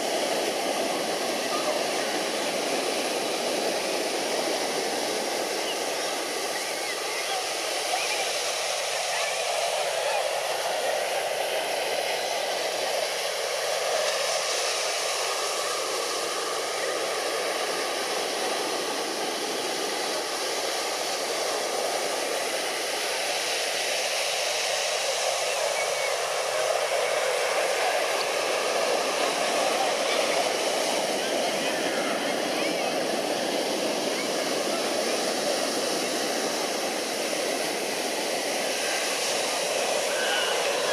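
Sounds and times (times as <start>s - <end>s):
constant rushing hiss: 0.0s - 40.9s
faint crowd chatter: 0.0s - 40.9s.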